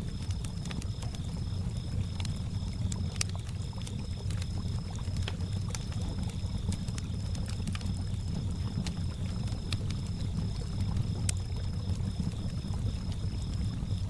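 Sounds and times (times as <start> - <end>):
campfire crackling and popping: 0.0 - 14.0
crickets chirping: 0.0 - 14.0.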